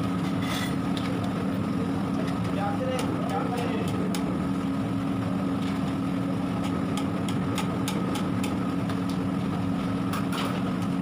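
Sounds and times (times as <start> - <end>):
engine-like hum: 0.0 - 11.0.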